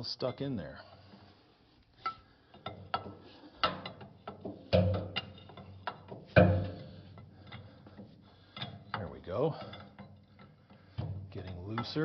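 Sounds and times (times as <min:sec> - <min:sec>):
wrenches clicking and clanking: 0:00.0 - 0:12.0.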